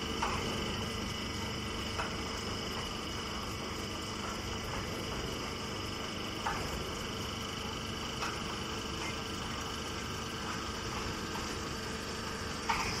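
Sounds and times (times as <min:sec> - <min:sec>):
hay baling machinery humming: 0:00.0 - 0:13.0.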